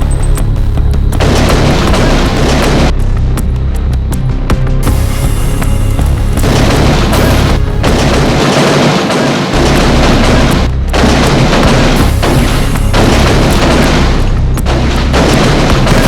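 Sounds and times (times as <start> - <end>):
cinematic music: 0.0 - 16.0
loud booming and rumbling: 0.0 - 16.0.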